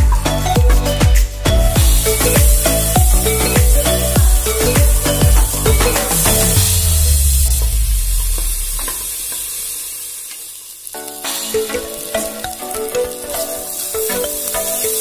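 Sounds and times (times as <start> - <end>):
melodic background music: 0.0 - 8.0, 11.0 - 15.0
onions sizzling in hot oil: 1.8 - 15.0.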